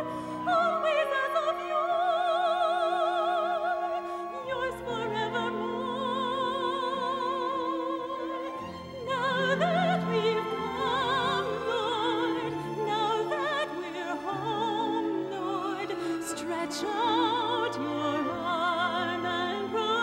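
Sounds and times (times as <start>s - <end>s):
orchestral accompaniment: 0.0s - 20.0s.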